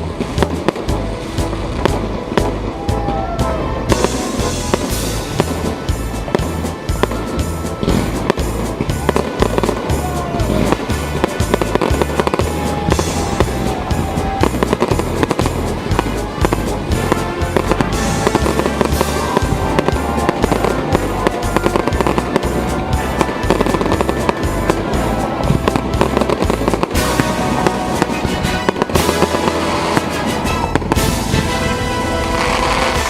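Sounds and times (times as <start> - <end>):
fireworks crackling and popping: 0.0 - 33.0
music with heavy bass: 0.0 - 33.0.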